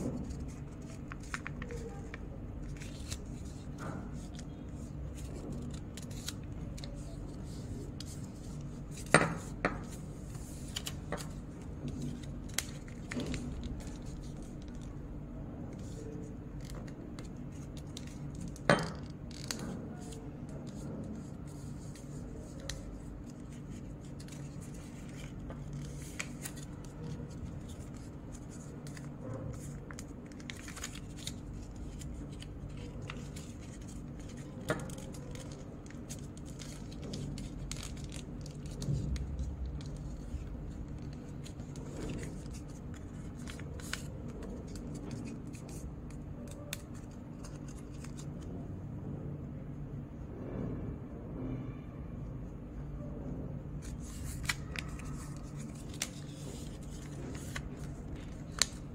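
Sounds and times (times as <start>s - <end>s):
paper rustling and scraping: 0.0s - 15.0s, 15.7s - 48.5s, 53.8s - 58.9s.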